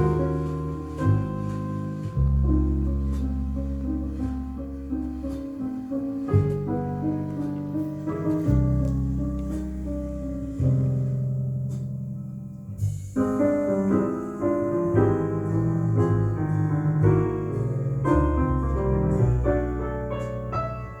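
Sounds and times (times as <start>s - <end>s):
piano music with bass line: 0.0s - 21.0s.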